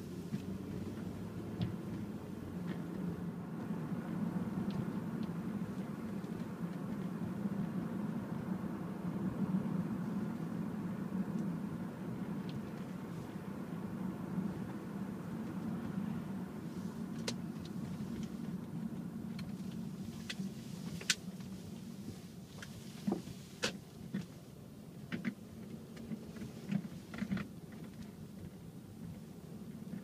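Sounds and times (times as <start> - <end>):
road and engine hum: 0.0 - 30.0.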